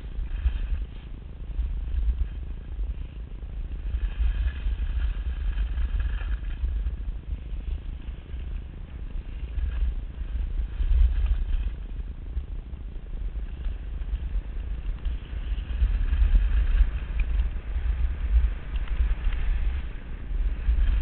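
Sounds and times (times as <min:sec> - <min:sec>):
skis scraping over packed snow: 0:00.0 - 0:21.0
wind buffeting microphone: 0:00.0 - 0:21.0.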